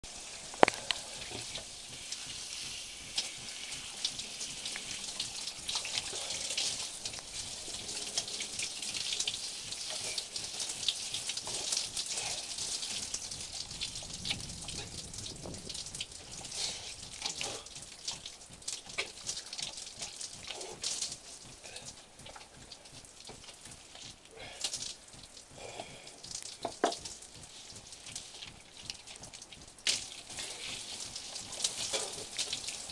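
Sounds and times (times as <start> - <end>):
water pattering and splashing: 0.1 - 32.9.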